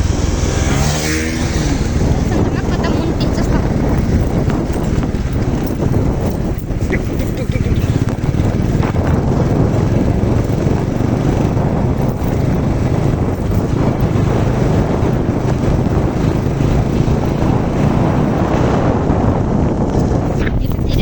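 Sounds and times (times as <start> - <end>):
motorcycle engine running: 0.0 - 21.0
wind noise on microphone: 0.0 - 21.0.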